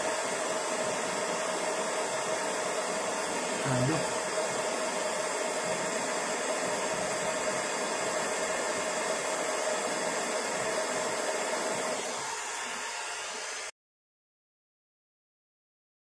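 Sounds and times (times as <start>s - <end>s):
fan whine: 0.0s - 13.7s
heat gun blowing air: 0.0s - 13.7s.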